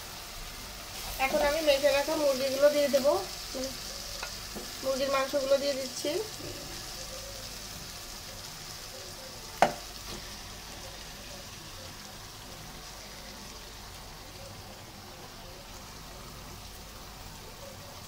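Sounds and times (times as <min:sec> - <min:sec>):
spices sizzling in a pan: 0:00.0 - 0:18.0.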